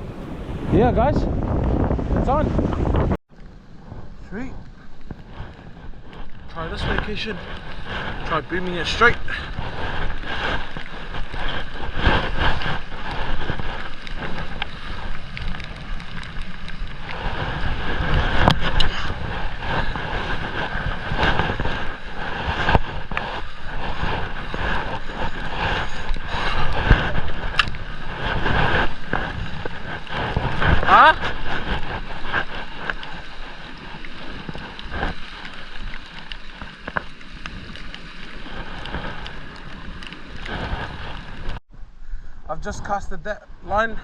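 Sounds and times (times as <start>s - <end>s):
surf washing: 0.0s - 41.6s
wind buffeting microphone: 0.0s - 44.0s.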